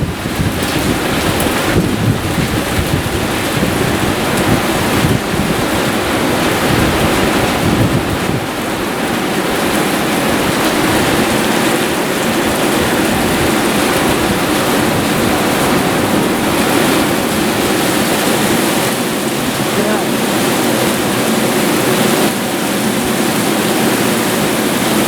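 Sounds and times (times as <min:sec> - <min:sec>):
heavy rain pouring down: 0:00.0 - 0:25.0.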